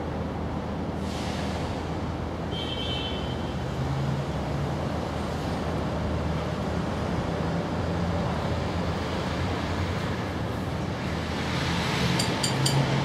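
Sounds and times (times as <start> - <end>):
distant road traffic: 0.0 - 13.0.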